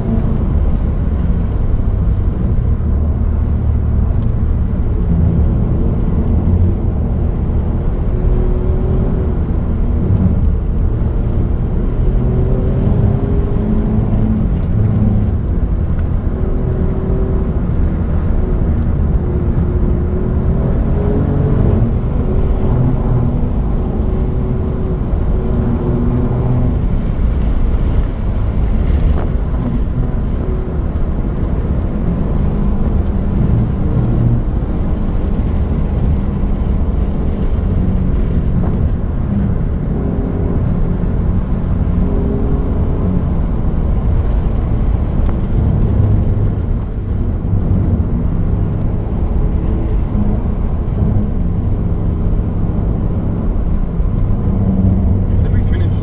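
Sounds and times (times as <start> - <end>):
car engine at speed: 0.0 - 56.0
road noise inside car: 0.0 - 56.0.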